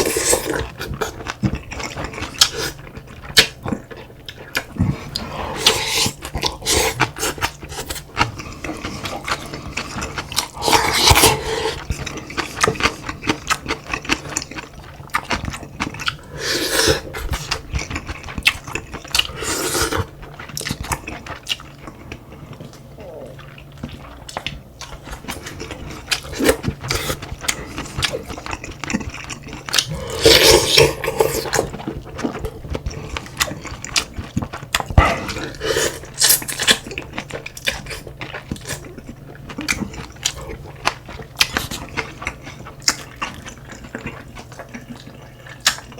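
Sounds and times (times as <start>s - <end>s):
person chewing: 0.0s - 45.9s.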